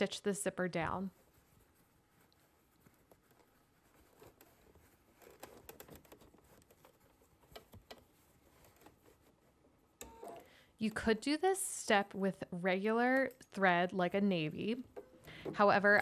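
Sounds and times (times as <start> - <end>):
light rustling of handling: 1.0 - 16.0.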